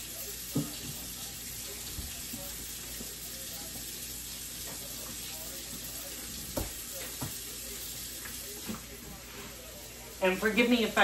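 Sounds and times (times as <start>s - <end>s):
tap water running into sink: 0.0s - 9.0s.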